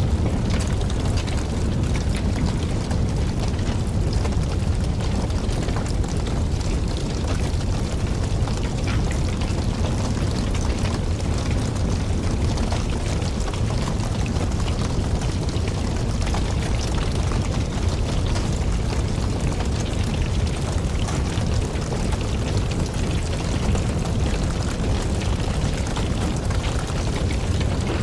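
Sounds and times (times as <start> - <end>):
campfire flame rumble: 0.0 - 28.0
fire crackling and popping: 0.0 - 28.0.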